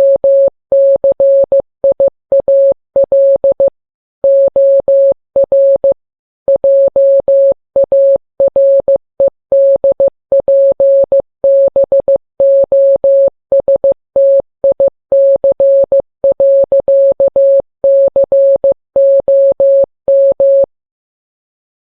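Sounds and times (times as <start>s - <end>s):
morse code beeps: 0.0s - 20.7s.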